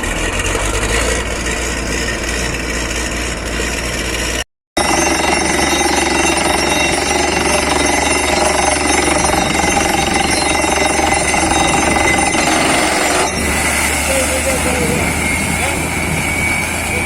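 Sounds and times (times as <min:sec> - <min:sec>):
drilling rig running: 0:00.0 - 0:17.0
rapid drill hammering: 0:00.1 - 0:17.0.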